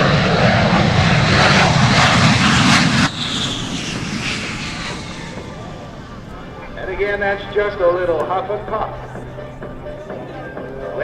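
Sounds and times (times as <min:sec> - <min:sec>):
jet engines at full power: 0:00.0 - 0:11.0.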